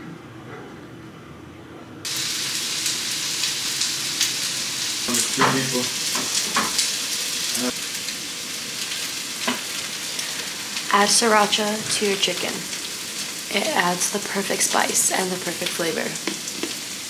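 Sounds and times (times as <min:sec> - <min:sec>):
chicken sizzling in a pan: 0:02.1 - 0:17.0.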